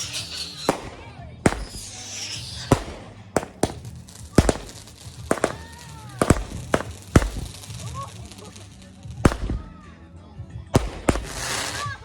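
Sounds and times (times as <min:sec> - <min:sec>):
firework whistling glide: 0:00.0 - 0:08.9, 0:11.2 - 0:12.0
fireworks bangs: 0:00.0 - 0:09.7, 0:10.8 - 0:12.0.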